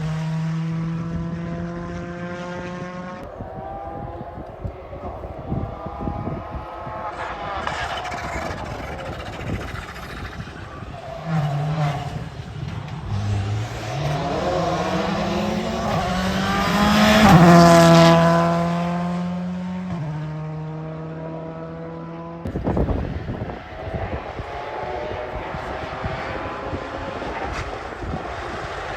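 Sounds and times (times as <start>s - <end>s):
rally car engine passing: 0.0s - 28.9s.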